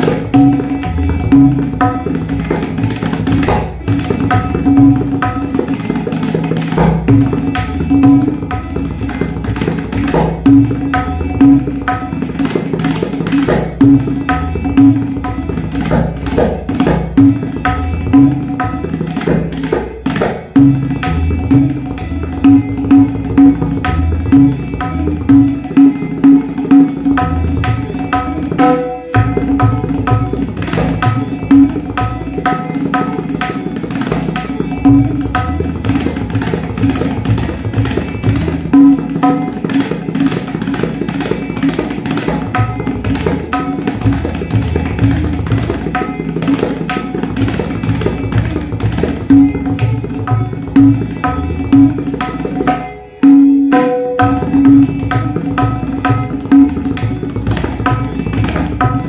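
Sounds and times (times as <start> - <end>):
low tabla bass strokes: 0.0 - 6.0, 6.7 - 59.0
rapid tabla roll: 0.0 - 59.0.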